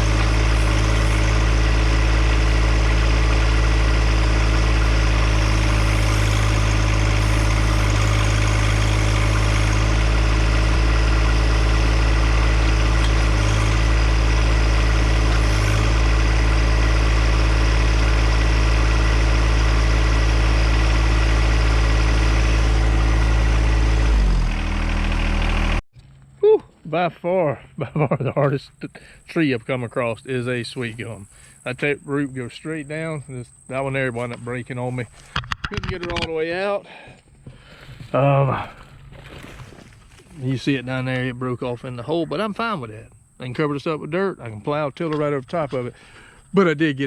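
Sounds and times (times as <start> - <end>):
tractor engine running: 0.0 - 26.4, 28.4 - 47.0.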